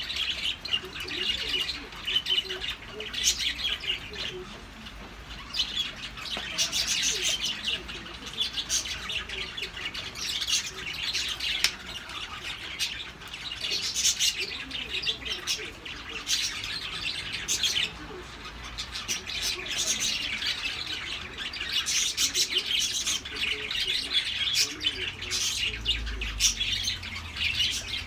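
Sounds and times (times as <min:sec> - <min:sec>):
birds chirping and squawking: 0:00.0 - 0:28.0.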